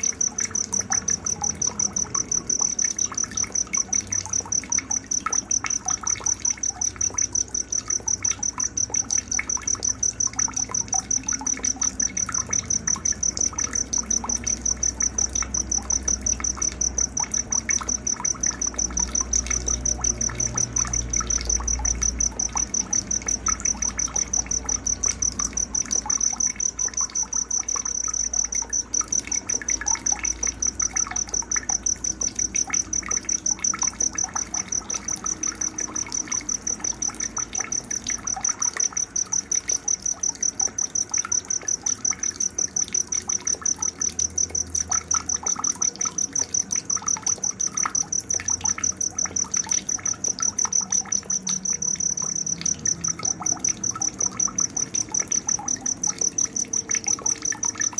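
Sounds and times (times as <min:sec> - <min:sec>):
cricket trilling: 0:00.0 - 0:57.9.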